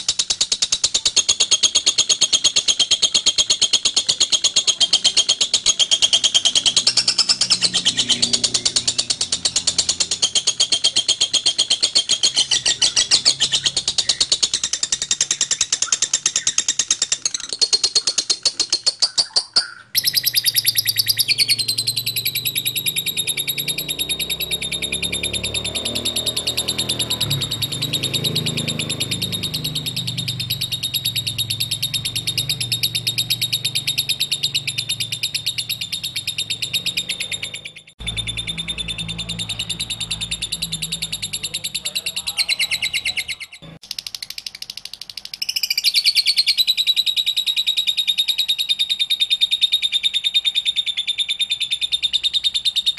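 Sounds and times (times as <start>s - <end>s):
lovebird chattering song: 0.0s - 52.9s.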